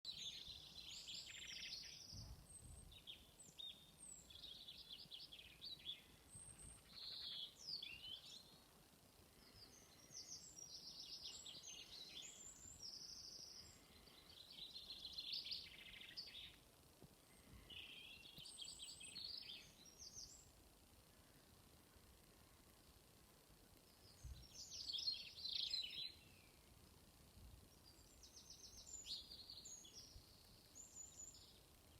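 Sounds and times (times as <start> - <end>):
songbirds singing: 0.0 - 31.9.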